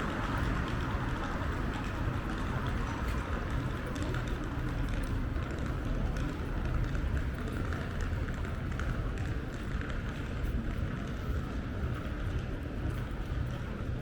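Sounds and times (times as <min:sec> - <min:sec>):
street rumble and hum: 0:00.0 - 0:14.0.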